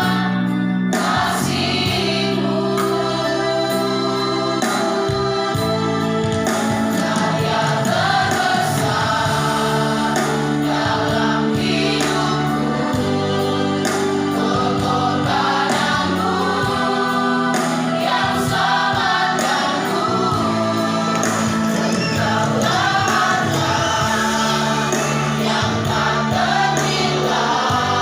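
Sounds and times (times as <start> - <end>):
choir singing a hymn: 0.0 - 28.0
sustained chord accompaniment: 0.0 - 28.0.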